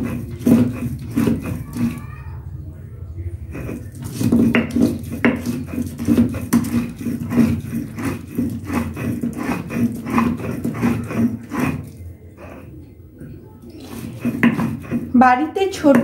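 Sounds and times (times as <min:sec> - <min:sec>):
stone grinding on stone: 0:00.0 - 0:02.1, 0:03.4 - 0:12.8, 0:13.6 - 0:15.2.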